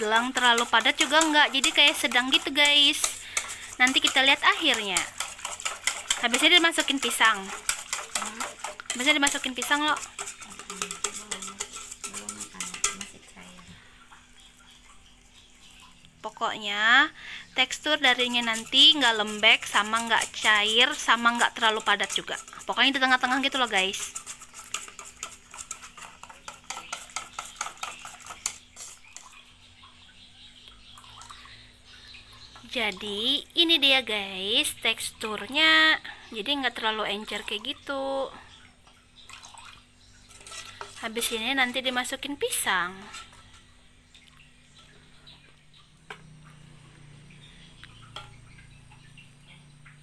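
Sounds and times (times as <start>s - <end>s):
spoon stirring batter in metal pot: 0.0s - 16.6s, 17.2s - 50.0s
batter dripping: 0.0s - 50.0s.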